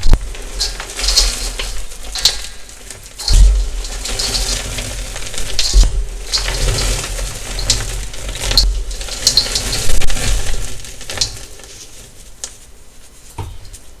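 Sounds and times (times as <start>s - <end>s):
low rumble of handling: 0.0s - 14.0s.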